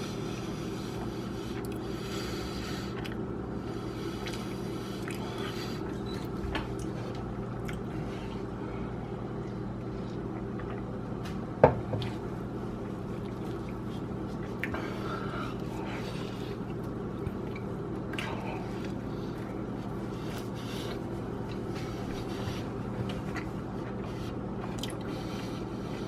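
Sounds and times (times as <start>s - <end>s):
steady low hum: 0.0s - 26.0s
wet chewing and mouth sounds: 1.0s - 1.9s, 2.8s - 3.3s, 4.1s - 8.5s, 9.2s - 11.4s, 12.0s - 26.0s.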